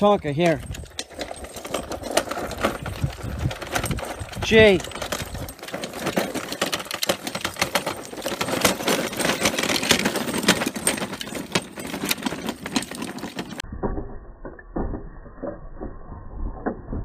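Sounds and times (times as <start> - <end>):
harness hardware rattling: 0.0 - 13.6.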